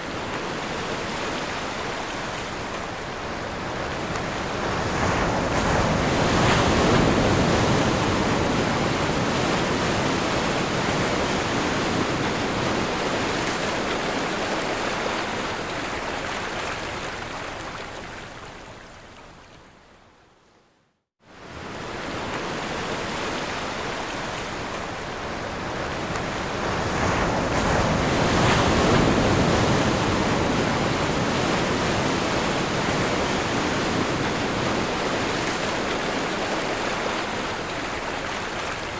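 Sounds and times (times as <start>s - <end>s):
ocean surf breaking: 0.0s - 15.8s, 21.6s - 38.9s.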